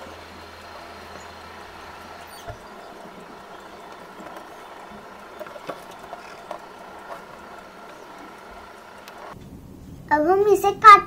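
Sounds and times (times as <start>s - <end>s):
steady background hum: 0.0s - 10.3s.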